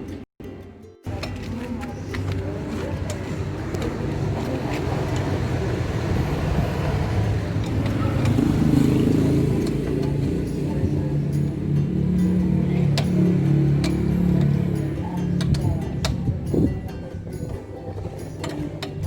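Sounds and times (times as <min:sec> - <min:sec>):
car engine and road rumble: 0:01.0 - 0:19.0.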